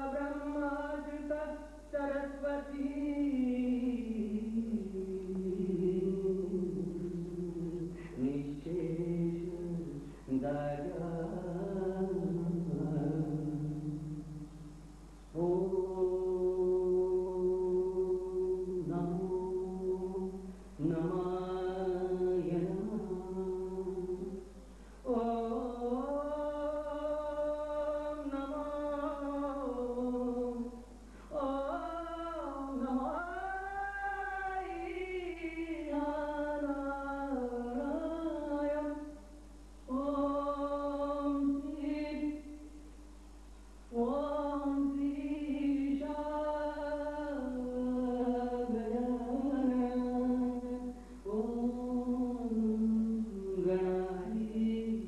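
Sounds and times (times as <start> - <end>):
person singing unaccompanied: 0.0 - 42.8, 43.8 - 55.0.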